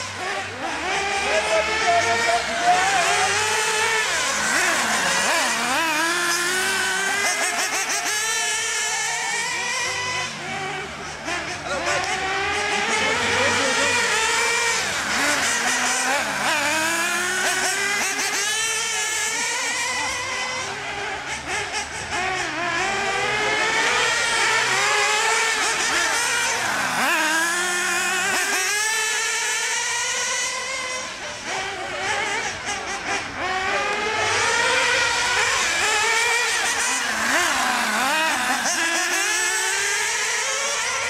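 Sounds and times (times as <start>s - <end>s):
model car engines revving: 0.0s - 41.0s.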